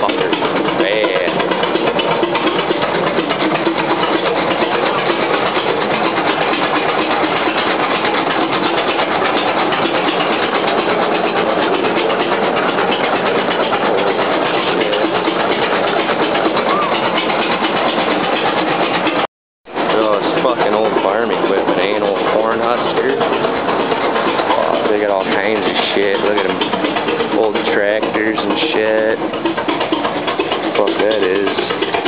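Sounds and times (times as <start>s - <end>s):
belt pulley and gearing turning: 0.0s - 32.0s
tractor engine running: 0.0s - 32.0s.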